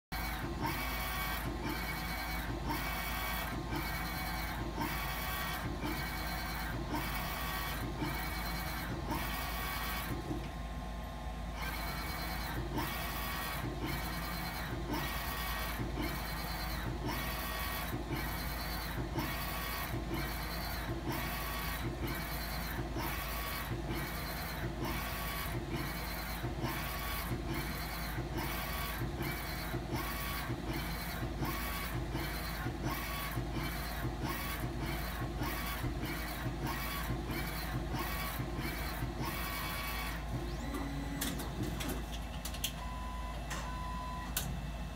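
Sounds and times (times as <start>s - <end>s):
motor whine: 0.1s - 44.9s.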